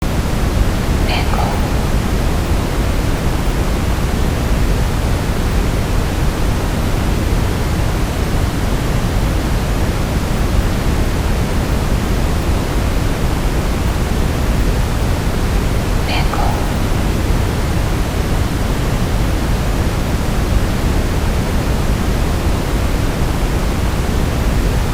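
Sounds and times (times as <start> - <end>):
brown noise: 0.0 - 24.9.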